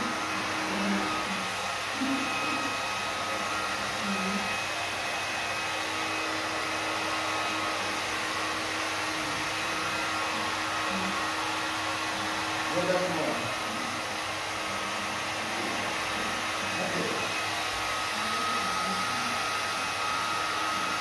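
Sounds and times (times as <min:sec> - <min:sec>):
electric blower motor whirring: 0:00.0 - 0:21.0.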